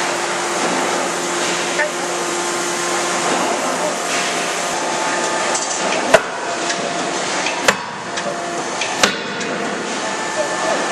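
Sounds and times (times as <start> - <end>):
machinery hum: 0.0 - 10.9.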